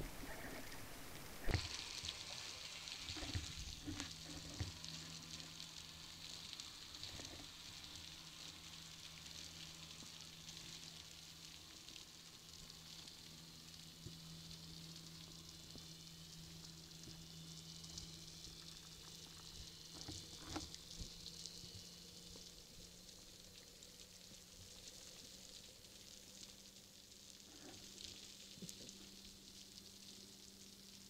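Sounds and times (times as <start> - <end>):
steady low hum: 0.0 - 31.0
underwater crackling and fizzing: 0.0 - 31.0.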